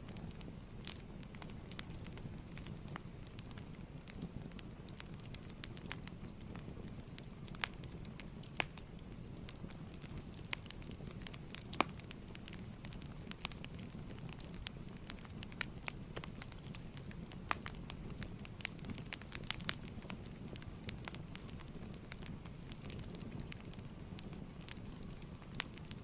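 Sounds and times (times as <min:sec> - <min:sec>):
wood fire crackling: 0:00.0 - 0:26.0
sharp pops of fire: 0:00.1 - 0:26.0.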